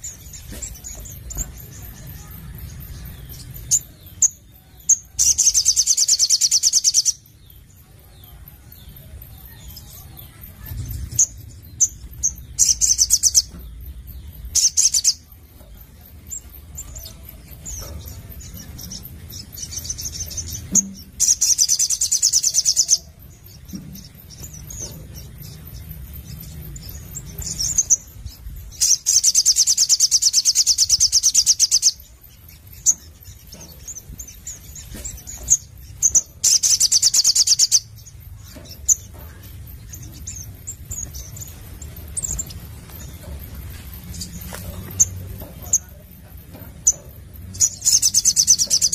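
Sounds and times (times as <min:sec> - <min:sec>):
bird chirps: 0:00.0 - 0:48.9.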